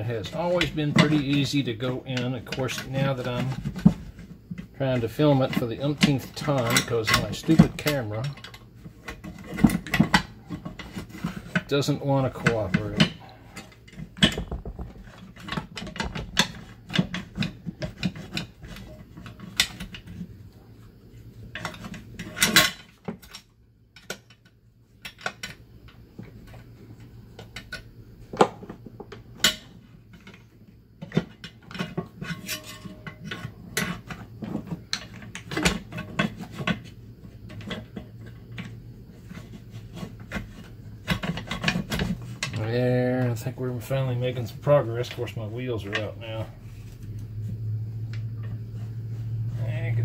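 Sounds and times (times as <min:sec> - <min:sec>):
metallic clicks and scraping: 0:00.0 - 0:20.4, 0:21.3 - 0:27.9, 0:29.1 - 0:50.0
faint low hum: 0:00.0 - 0:50.0.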